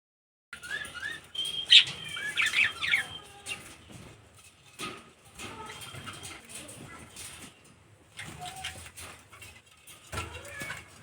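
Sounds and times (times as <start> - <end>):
birds chirping: 0.6 - 10.8.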